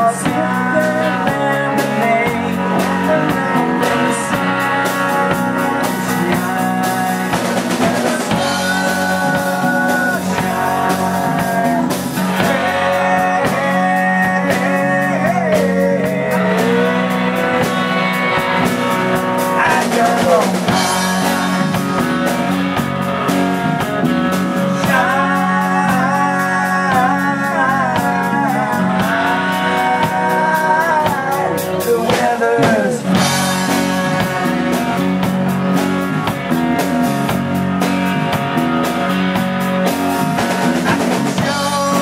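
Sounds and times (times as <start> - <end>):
men singing: 0.0 - 22.3, 24.4 - 35.2, 40.4 - 42.0
drum kit: 0.0 - 42.0
electric and acoustic guitars: 0.0 - 42.0.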